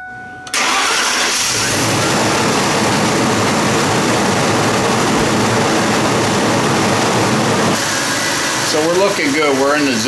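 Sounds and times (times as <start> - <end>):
truck engine idling: 0.6 - 10.0.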